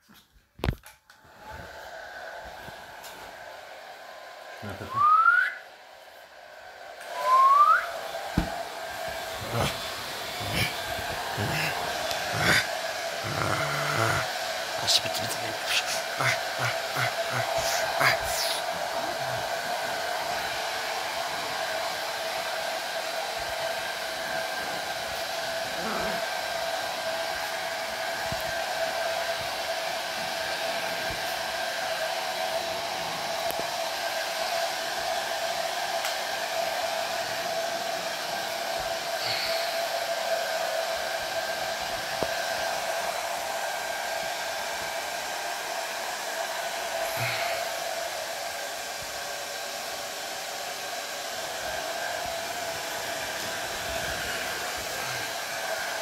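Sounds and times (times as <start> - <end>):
hair dryer running: 0.6 - 56.0.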